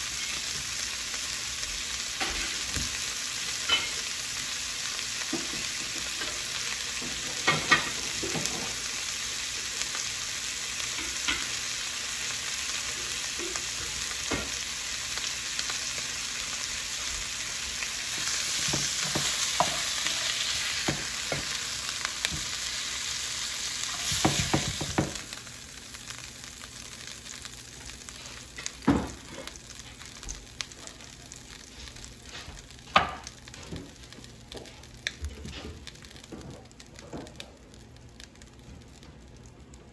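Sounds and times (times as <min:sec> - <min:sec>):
meat sizzling in a skillet: 0:00.0 - 0:39.3.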